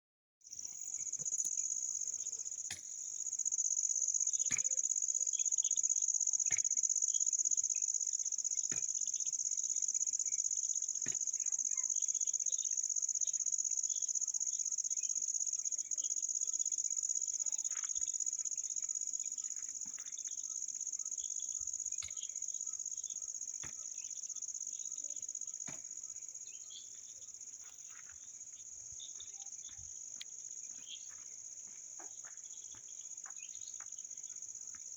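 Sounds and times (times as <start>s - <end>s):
faint chirps: 0.5s - 34.8s
insects trilling drone: 0.5s - 34.9s.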